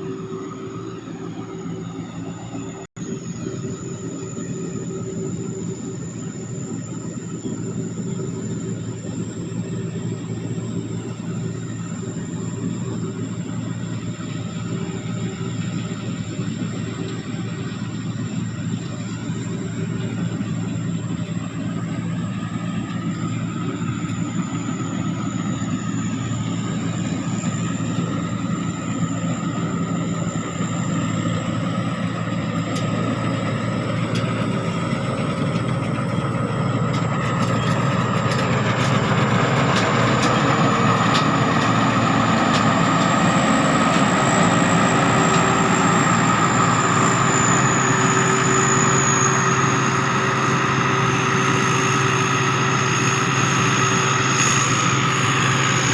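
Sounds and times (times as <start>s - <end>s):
harvester diesel engine drone: 0.0s - 55.9s
high turbocharger whistle: 0.0s - 55.9s.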